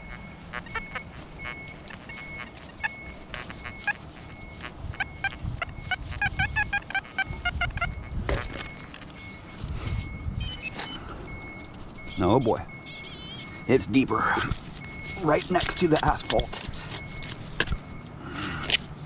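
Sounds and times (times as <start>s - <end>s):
metal detector beeps: 0.0s - 18.0s.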